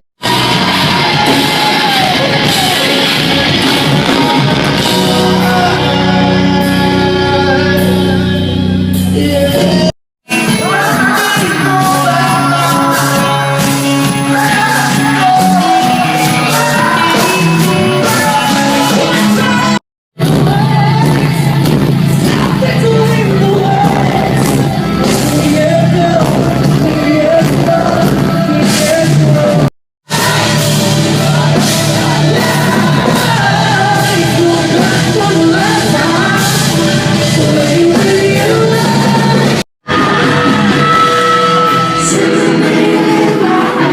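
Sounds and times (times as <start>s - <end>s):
person singing: 0.2s - 43.9s
rock band playing live: 0.2s - 43.9s.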